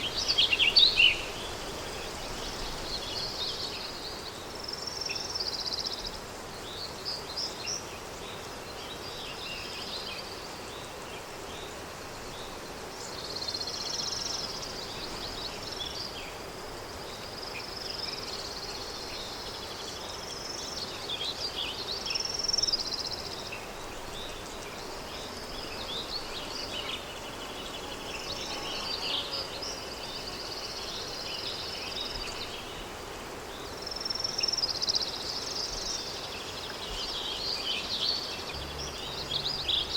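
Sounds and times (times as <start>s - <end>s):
small birds chirping: 0.0s - 39.9s
soft wind: 0.0s - 39.9s.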